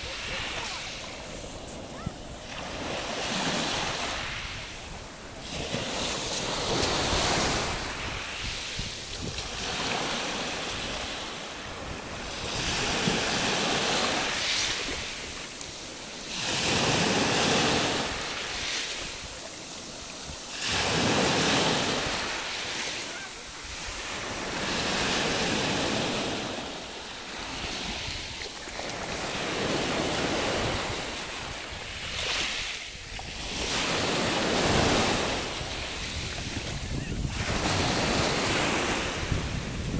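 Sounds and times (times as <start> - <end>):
wind on microphone: 0.0 - 22.8, 23.6 - 39.9
waves washing over pebbles: 0.0 - 39.9.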